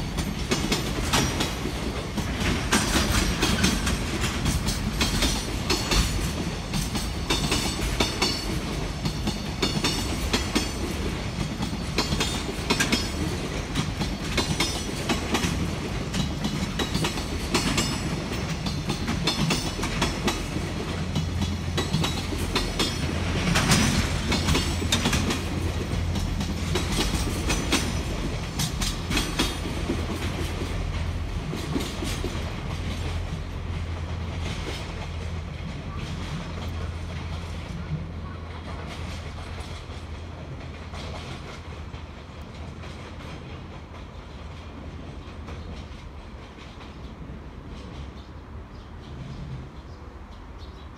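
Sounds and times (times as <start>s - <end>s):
train wheels clattering over joints: 0.0s - 48.3s
freight train rumble: 0.0s - 50.9s.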